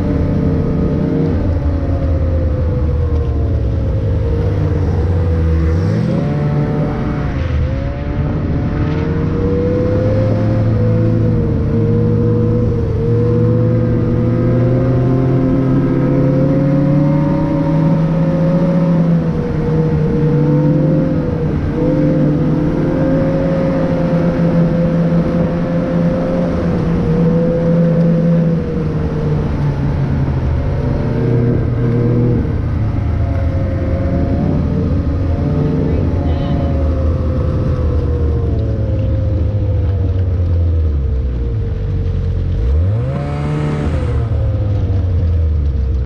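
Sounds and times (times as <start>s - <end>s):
vehicle engine running: 0.0s - 46.0s.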